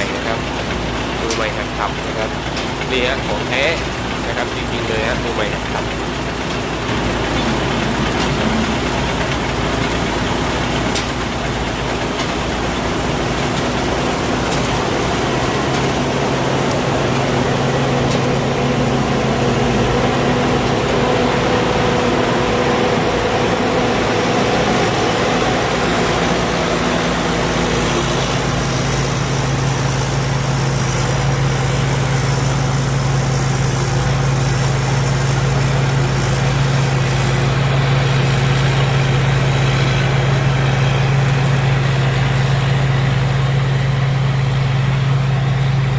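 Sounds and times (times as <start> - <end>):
combine harvester engine drone: 0.0 - 45.9
thin high whine: 0.0 - 45.9.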